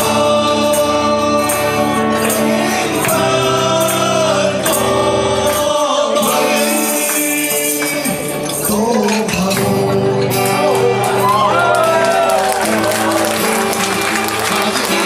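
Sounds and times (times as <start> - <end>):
acoustic guitar: 0.0 - 15.0
band accompaniment: 0.0 - 15.0
men singing into microphones: 0.0 - 15.0.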